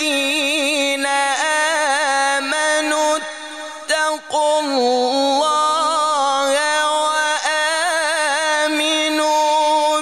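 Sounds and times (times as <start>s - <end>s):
man chanting melodically: 0.0s - 10.0s.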